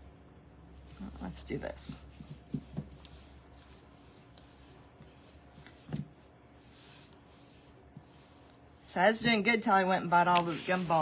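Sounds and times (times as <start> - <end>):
paintbrush brushing: 0.8 - 11.0.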